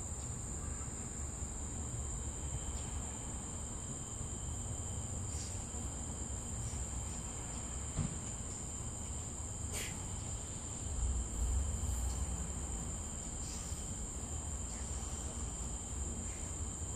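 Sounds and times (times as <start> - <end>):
crickets trilling: 0.0 - 16.9.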